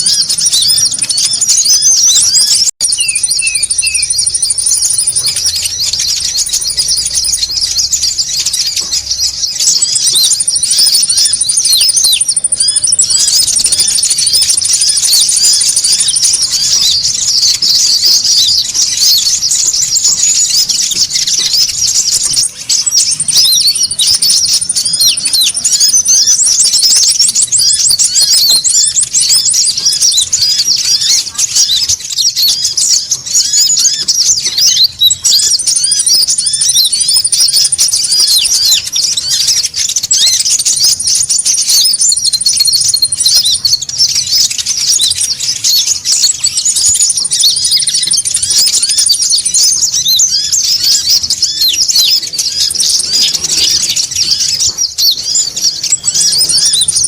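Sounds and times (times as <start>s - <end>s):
bird fast rattling trill: 0.0s - 57.0s
bird high even trill: 0.0s - 57.0s
birds chirping rapidly: 0.0s - 57.0s.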